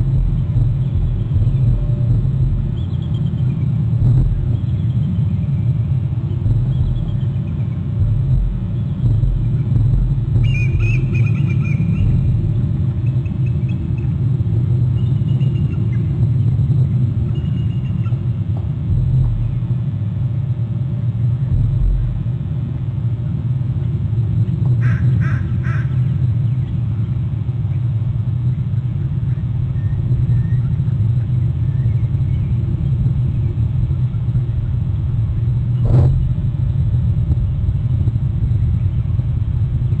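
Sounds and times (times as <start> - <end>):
wind buffeting microphone: 0.0 - 25.3, 25.9 - 40.0.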